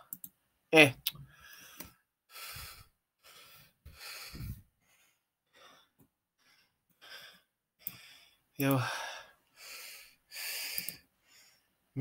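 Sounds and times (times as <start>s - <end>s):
man breathing into microphone: 1.3s - 11.7s.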